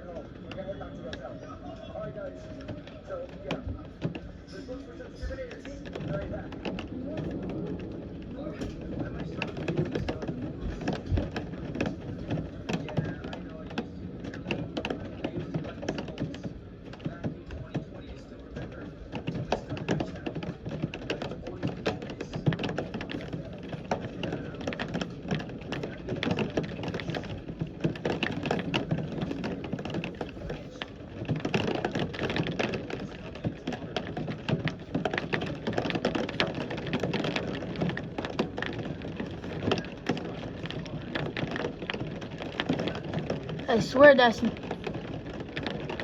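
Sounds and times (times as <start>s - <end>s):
heavy rain on hard surface: 5.8s - 17.0s, 19.2s - 46.0s.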